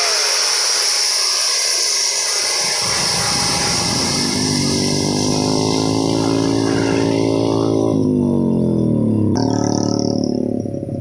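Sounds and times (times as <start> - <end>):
truck diesel engine under load: 1.9 - 11.0.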